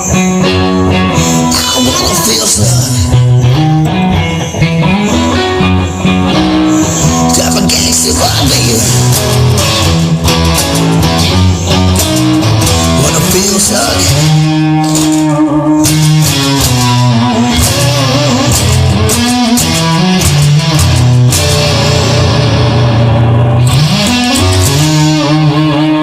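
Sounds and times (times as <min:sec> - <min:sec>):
bass guitar: 0:00.0 - 0:26.0
electric guitar playing: 0:00.0 - 0:26.0.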